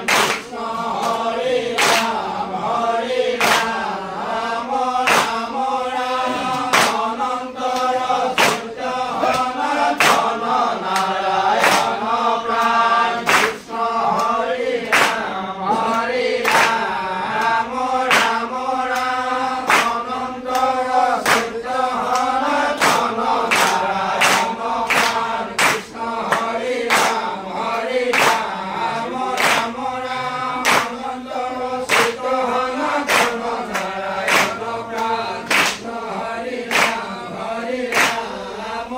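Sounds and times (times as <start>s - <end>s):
group singing devotional chant: 0.0s - 38.9s
hand claps: 0.0s - 38.9s.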